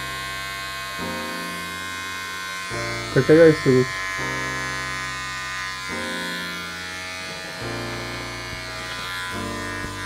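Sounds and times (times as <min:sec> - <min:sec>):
electric beard trimmer buzzing: 0:00.0 - 0:10.0.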